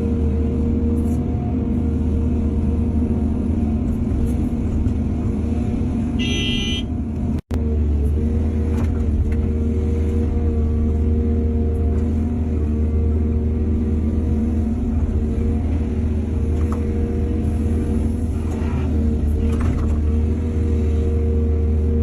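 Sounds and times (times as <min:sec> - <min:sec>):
heavy machinery engine droning: 0:00.0 - 0:22.0.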